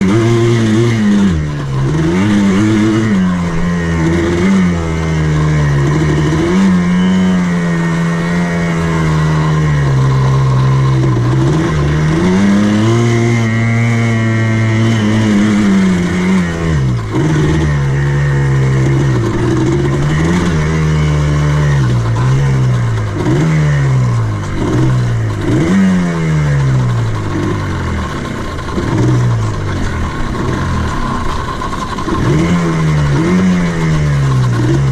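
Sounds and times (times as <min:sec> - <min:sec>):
buggy engine revving: 0:00.0 - 0:34.9.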